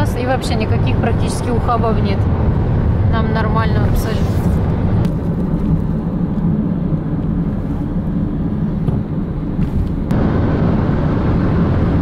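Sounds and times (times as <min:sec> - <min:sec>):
car road and engine drone: 0:00.0 - 0:12.0.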